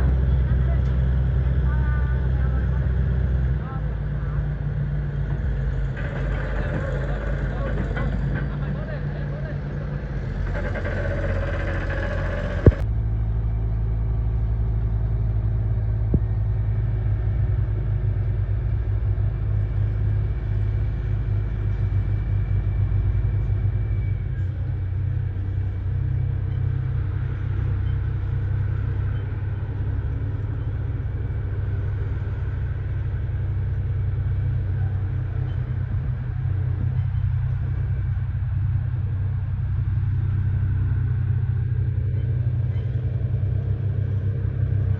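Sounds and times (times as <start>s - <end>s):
heavy machine engine droning: 0.0s - 44.9s.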